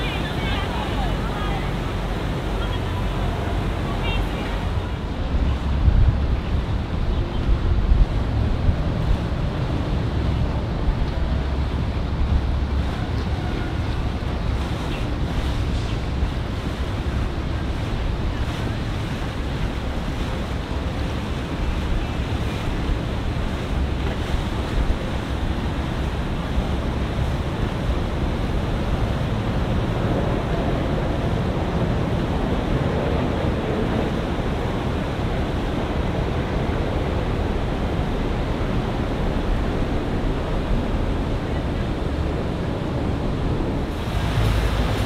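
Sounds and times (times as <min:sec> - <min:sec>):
wind noise on microphone: 0:00.0 - 0:45.0
water washing: 0:08.0 - 0:45.0.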